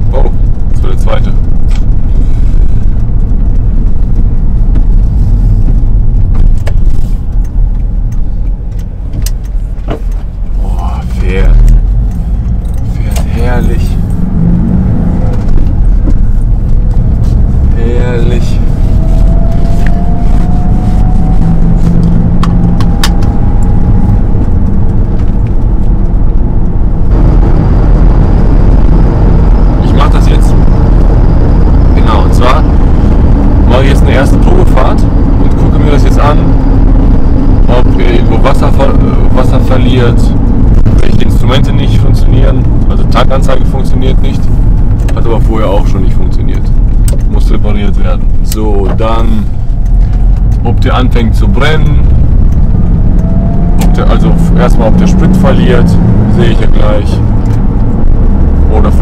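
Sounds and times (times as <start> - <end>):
van engine and road rumble: 0.0 - 59.0.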